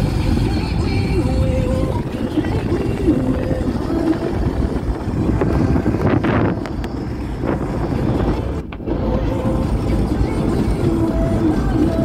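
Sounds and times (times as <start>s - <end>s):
vehicle road and wind noise: 0.0s - 12.0s.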